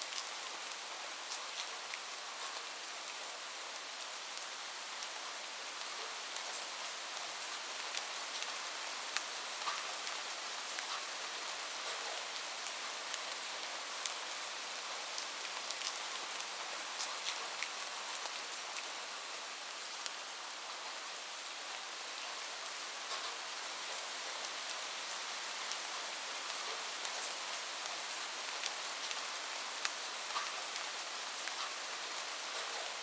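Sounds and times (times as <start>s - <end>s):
rain hissing on a roof: 0.0s - 33.0s.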